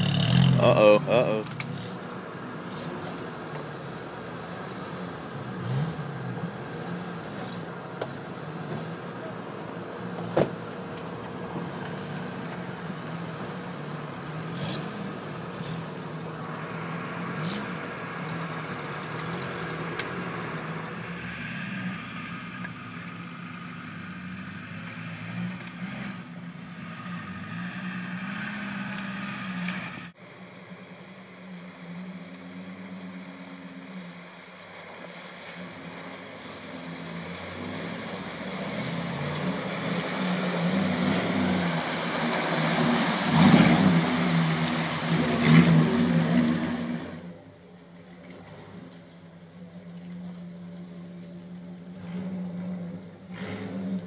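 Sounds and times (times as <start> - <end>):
off-road engine revving: 0.0 - 30.2, 31.0 - 47.6, 48.3 - 54.0
engine working through mud: 0.0 - 54.0.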